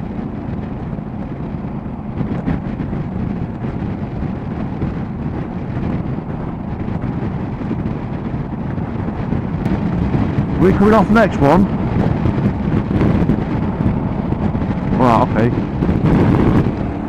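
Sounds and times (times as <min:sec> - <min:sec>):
motorcycle engine rumble: 0:00.0 - 0:17.0
road noise: 0:00.0 - 0:17.0
wind buffeting microphone: 0:00.0 - 0:17.0.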